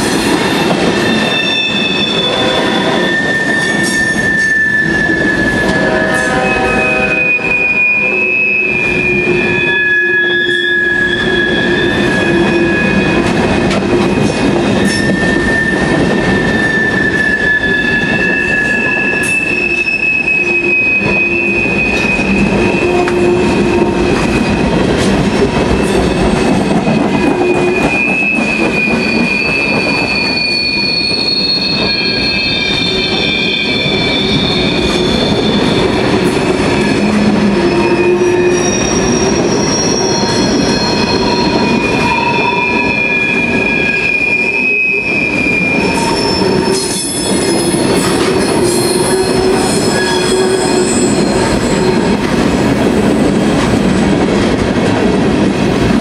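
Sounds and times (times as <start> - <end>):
train wheels squealing: 0.0 - 24.6, 25.6 - 52.2
train rumble and clatter: 0.0 - 56.0.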